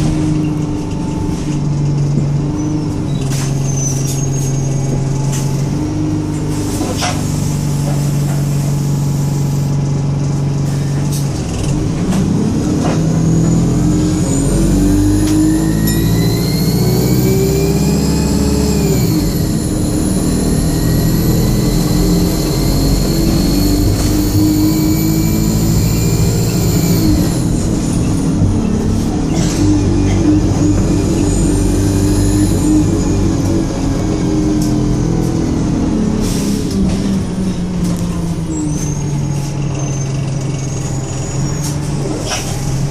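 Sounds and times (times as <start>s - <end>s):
bus engine revving with whine: 0.0s - 42.9s.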